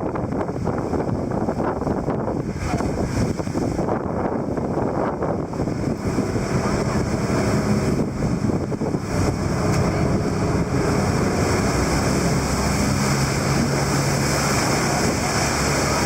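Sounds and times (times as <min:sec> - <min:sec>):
boat engine humming: 0:00.0 - 0:16.0
waves rushing: 0:00.0 - 0:16.0
wind noise on microphone: 0:00.0 - 0:16.0.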